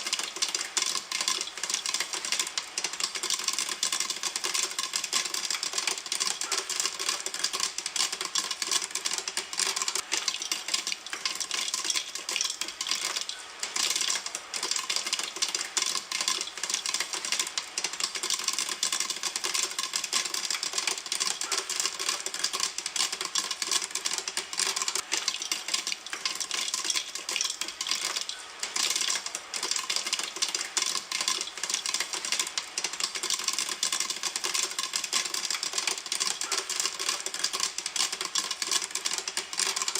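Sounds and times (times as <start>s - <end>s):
popcorn popping in a pan: 0.0s - 39.9s.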